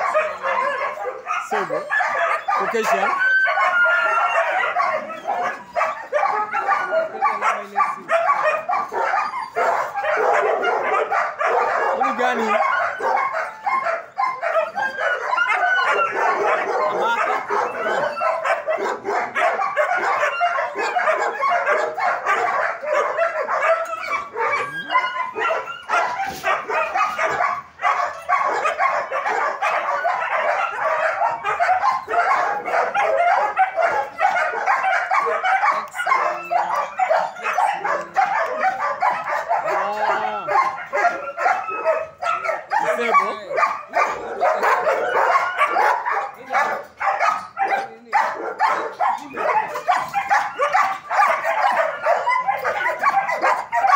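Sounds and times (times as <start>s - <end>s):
many dogs barking: 0.0s - 53.9s.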